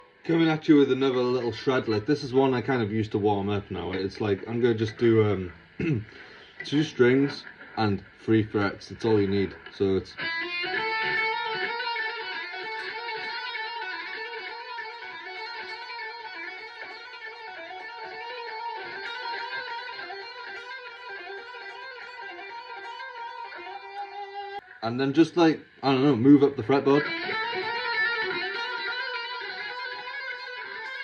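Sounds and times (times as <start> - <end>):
electric guitar shred lick: 3.8 - 24.8, 26.3 - 31.0.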